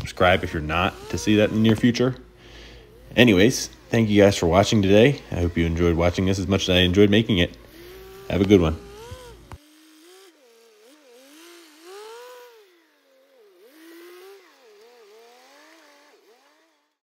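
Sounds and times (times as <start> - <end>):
loader engine revving: 0.0 - 17.0.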